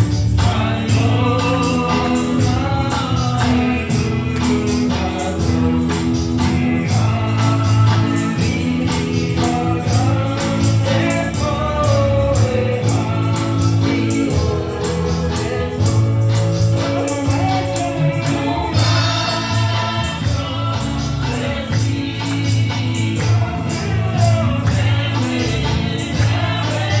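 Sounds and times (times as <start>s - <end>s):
drum kit playing: 0.0s - 27.0s
electronic keyboards: 0.0s - 27.0s
sustained bass notes: 0.0s - 27.0s
voices singing: 0.0s - 27.0s.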